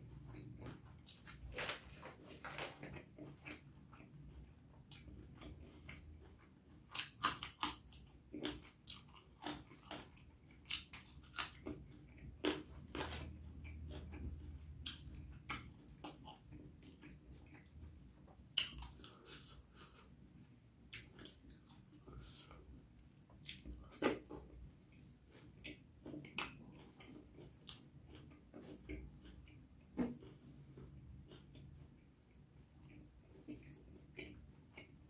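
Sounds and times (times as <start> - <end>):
person chewing with wet mouth sounds: 0.0 - 35.0.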